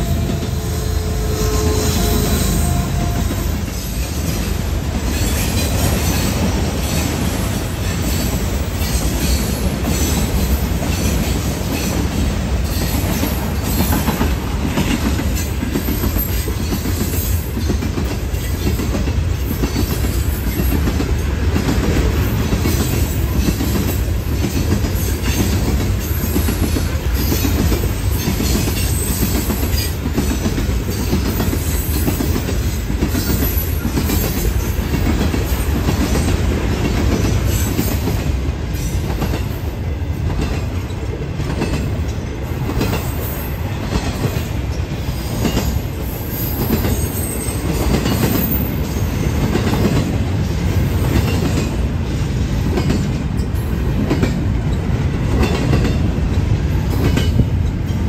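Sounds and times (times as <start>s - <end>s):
low rumble of freight train: 0.0s - 58.0s
train wheels clacking over rail joints: 2.6s - 58.0s.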